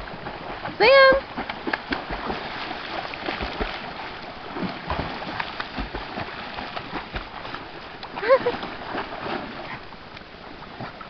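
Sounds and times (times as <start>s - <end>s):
dog swimming water splashing: 0.0s - 11.0s.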